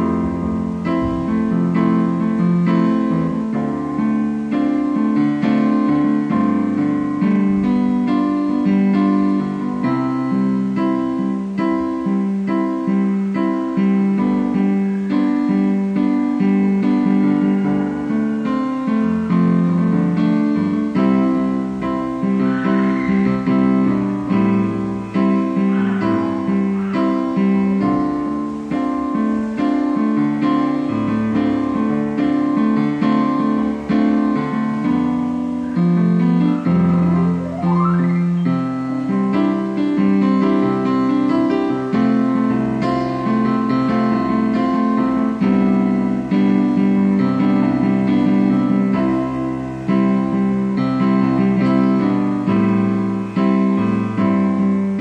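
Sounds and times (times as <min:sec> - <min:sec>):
electronic keyboard chords: 0:00.0 - 0:55.0.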